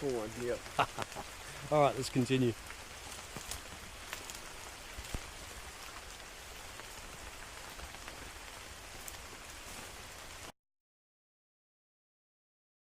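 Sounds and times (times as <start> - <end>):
raindrops tapping close by: 0.0 - 10.5
steady rain hiss: 0.0 - 10.5.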